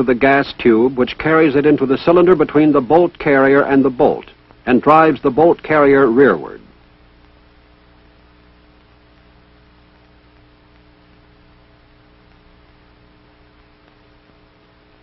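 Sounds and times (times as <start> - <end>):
film soundtrack hum and hiss: 0.0 - 15.0.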